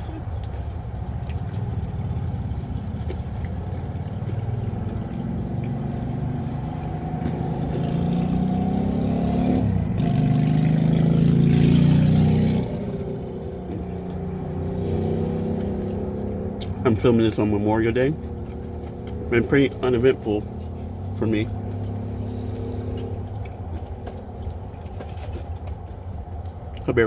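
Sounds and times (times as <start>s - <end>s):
vehicle engine accelerating: 0.0s - 27.0s.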